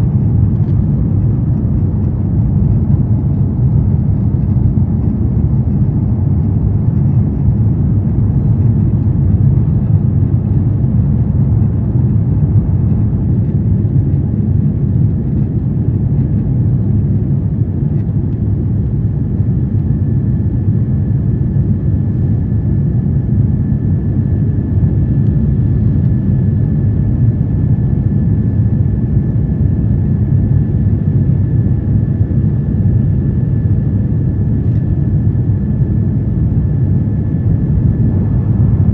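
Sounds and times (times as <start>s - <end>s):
faint steady whine: 0.0s - 38.9s
jet engine cabin rumble: 0.0s - 38.9s.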